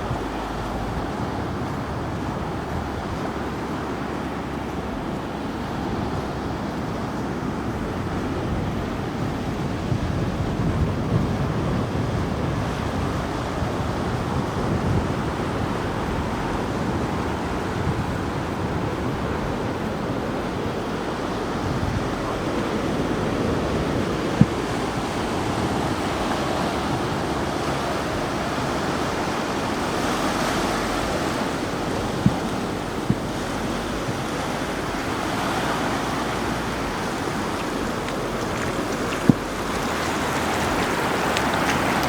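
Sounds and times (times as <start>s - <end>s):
ocean surf on sandy beach: 0.0s - 42.0s
wind rumbling on microphone: 0.0s - 42.0s.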